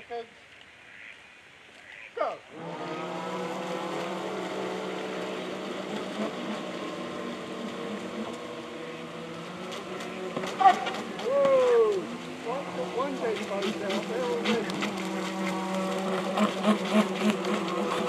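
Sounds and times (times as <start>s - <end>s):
model boat motors whining: 2.5s - 18.0s.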